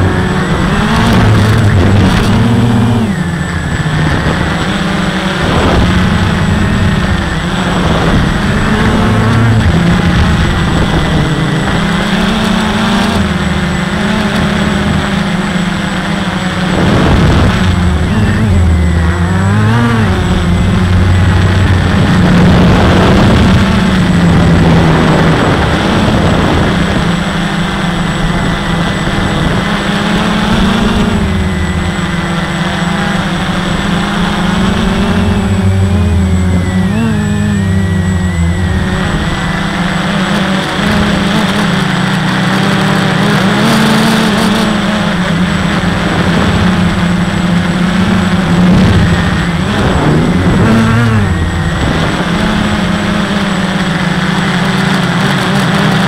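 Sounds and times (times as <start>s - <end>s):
quadcopter motors and propellers: 0.0s - 56.0s.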